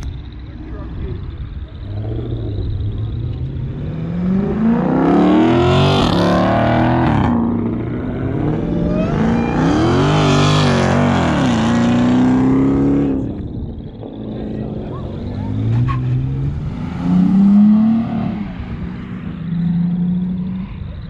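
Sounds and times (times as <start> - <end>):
car engine revving hard: 1.8 - 13.4, 14.0 - 20.6.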